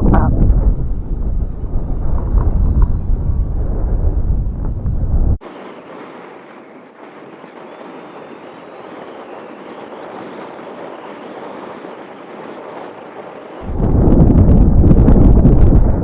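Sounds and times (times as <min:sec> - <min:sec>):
rushing wind: 0:00.0 - 0:16.0
wind gusts buffeting microphone: 0:00.0 - 0:16.0.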